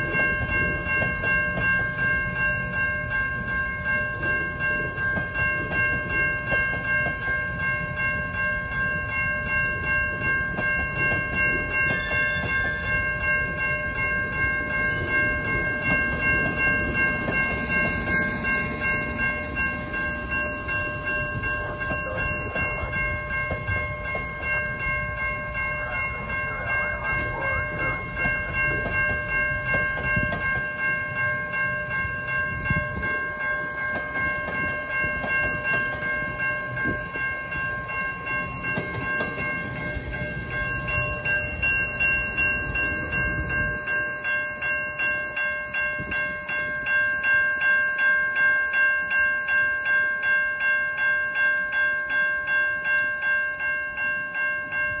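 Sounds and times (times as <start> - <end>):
train wheels rumbling on rail: 0.0 - 47.2
level crossing bell ringing: 0.0 - 55.0.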